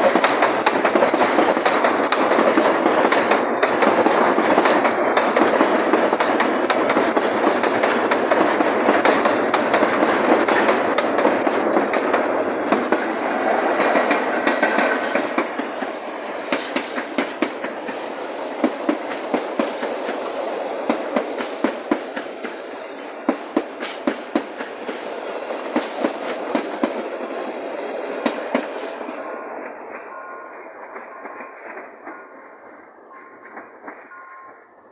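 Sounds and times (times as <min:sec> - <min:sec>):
freight train wheels clacking: 0:00.0 - 0:34.9
train rumble: 0:00.0 - 0:34.9.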